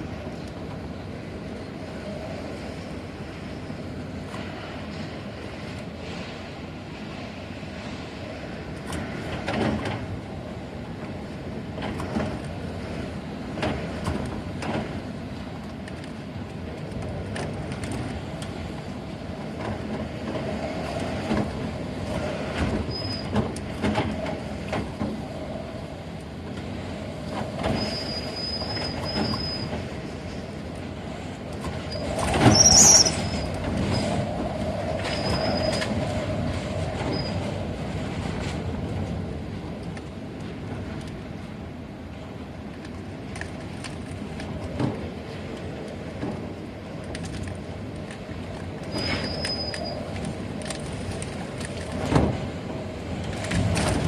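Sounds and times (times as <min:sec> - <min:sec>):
strong gusting wind: 0:00.0 - 0:54.0.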